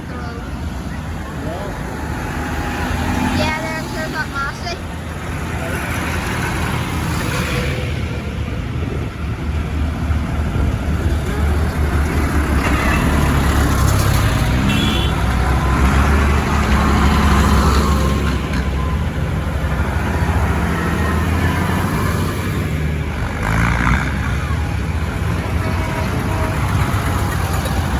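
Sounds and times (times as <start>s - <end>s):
tractor diesel engines running: 0.0s - 27.9s.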